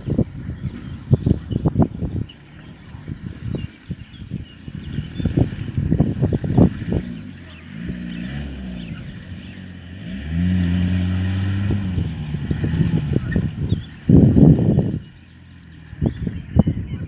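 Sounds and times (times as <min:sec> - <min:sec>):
pickup engine revving: 0:00.0 - 0:17.0.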